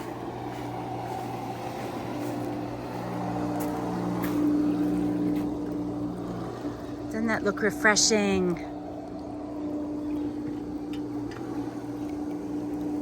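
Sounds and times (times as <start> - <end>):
pool pump motor hum: 0.0 - 13.0.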